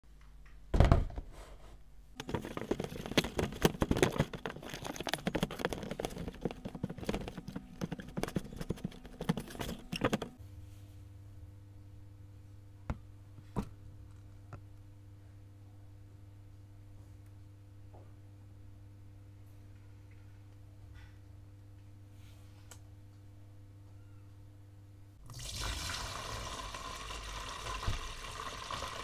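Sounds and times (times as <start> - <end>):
faint steady hum: 0.1 - 29.0.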